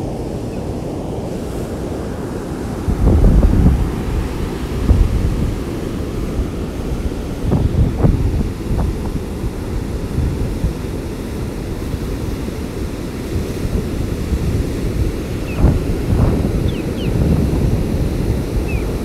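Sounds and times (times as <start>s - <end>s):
surf breaking on beach: 0.0s - 19.0s
wind buffeting the microphone: 0.0s - 19.0s.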